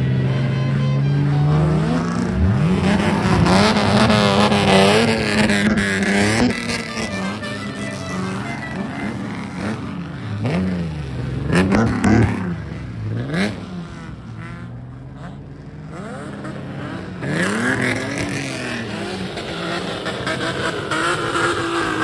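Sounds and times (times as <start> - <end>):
car engines revving: 0.0 - 22.0
car engine idling: 1.3 - 22.0.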